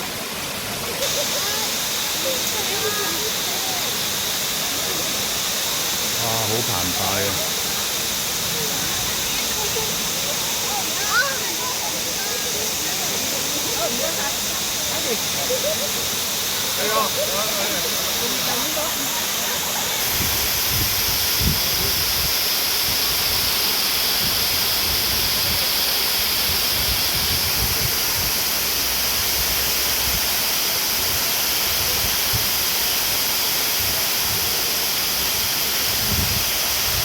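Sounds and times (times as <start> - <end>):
water rushing over dam spillway: 0.0 - 37.0.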